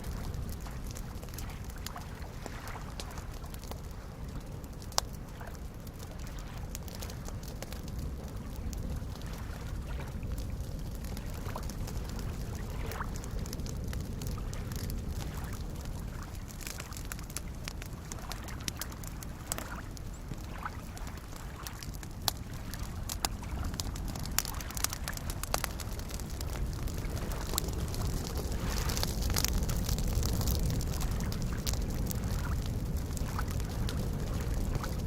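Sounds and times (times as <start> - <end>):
campfire crackling and popping: 0.0 - 35.0
small waves lapping at shore: 0.1 - 34.9.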